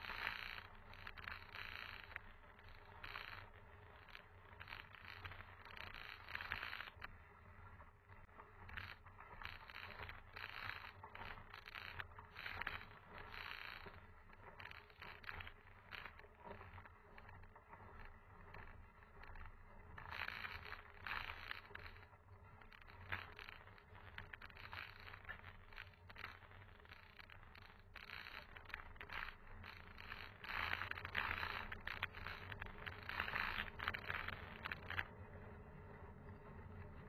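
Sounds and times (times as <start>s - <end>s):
small clicks and rattles: 0.0s - 37.0s.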